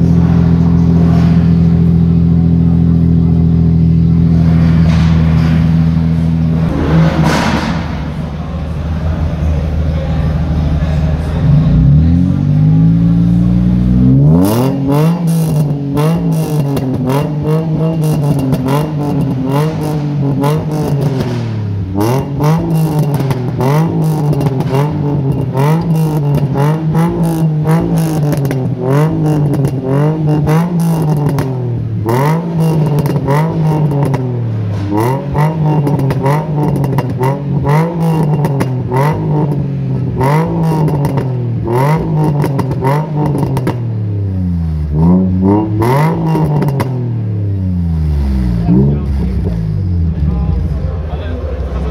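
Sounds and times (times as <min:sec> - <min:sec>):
car engine revving: 0:00.0 - 0:51.9
exhaust crackles: 0:00.0 - 0:51.9.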